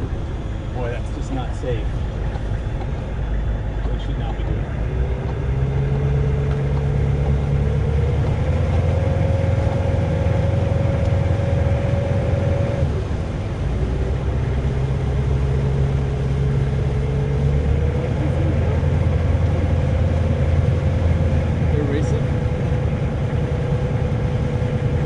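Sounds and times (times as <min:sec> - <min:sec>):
heavy truck engine whining under load: 0:00.0 - 0:25.0.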